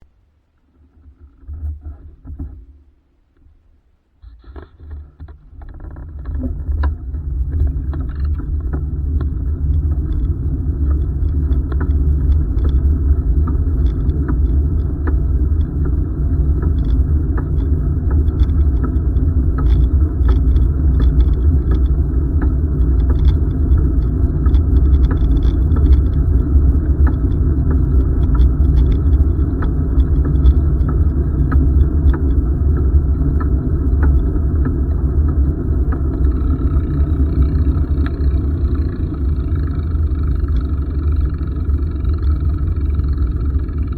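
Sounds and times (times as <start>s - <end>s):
bike clicks and rattles: 4.3s - 43.9s
wind on microphone: 4.3s - 43.9s
bicycle rolling on trail: 4.4s - 43.9s.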